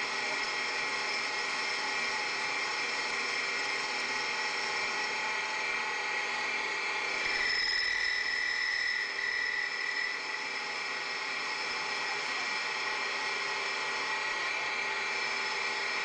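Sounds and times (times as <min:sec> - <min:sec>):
high machine whine: 0:00.0 - 0:16.0
lathe machining whir: 0:00.0 - 0:16.0.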